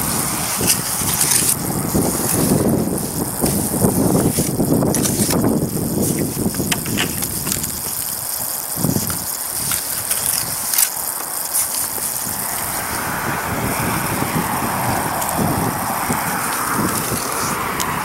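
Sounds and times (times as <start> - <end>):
rushing noise: 0.0 - 18.0
wind rumbling on microphone: 0.0 - 18.0.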